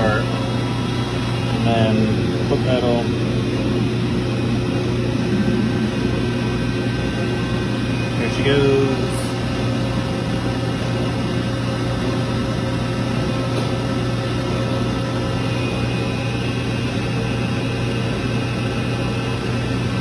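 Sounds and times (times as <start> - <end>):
hydraulic power unit humming: 0.0 - 20.0.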